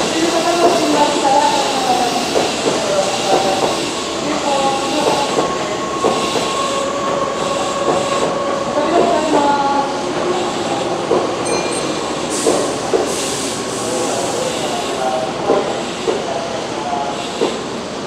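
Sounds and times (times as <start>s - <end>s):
busy platform noise: 0.0s - 18.0s
electric train humming: 0.0s - 18.0s.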